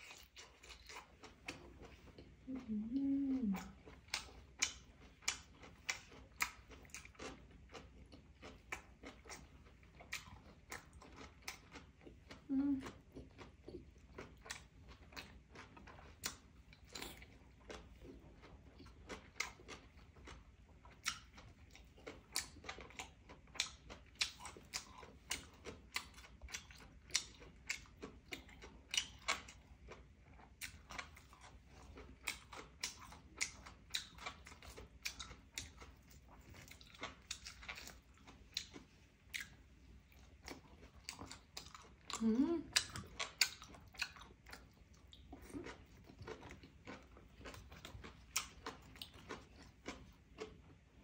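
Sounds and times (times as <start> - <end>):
person chewing crunchy food: 0.0 - 51.0.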